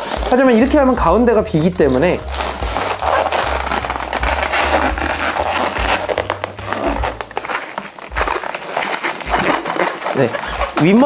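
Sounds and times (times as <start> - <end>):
balloons crackling and rubbing: 0.0 - 11.0.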